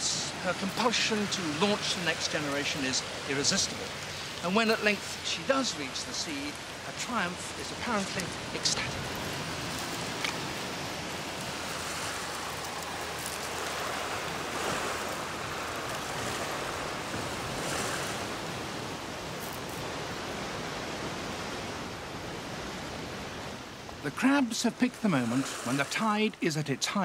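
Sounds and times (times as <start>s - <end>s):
sea surf washing ashore: 0.0s - 27.0s.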